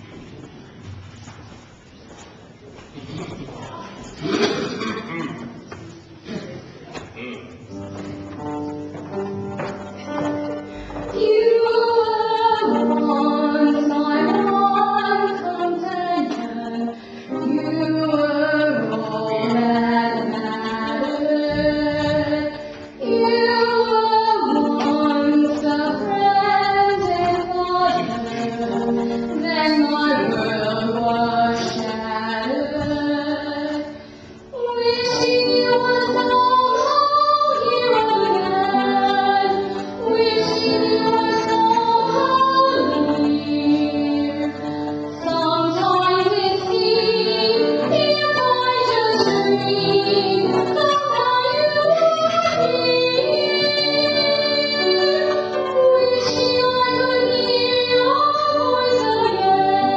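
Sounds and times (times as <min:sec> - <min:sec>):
grand piano: 0:07.1 - 0:59.9
woman singing: 0:11.1 - 0:59.9.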